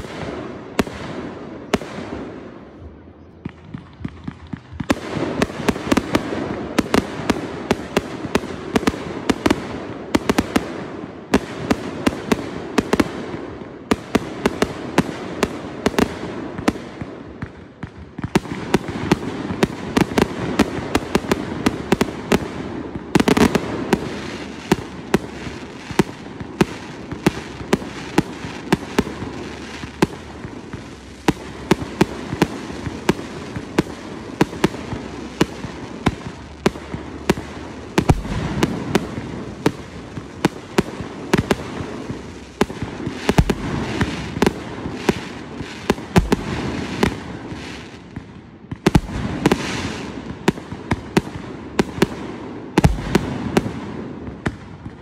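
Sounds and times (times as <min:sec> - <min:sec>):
deep firework booms: 0:00.0 - 0:55.0
fireworks cracking and popping: 0:00.0 - 0:55.0.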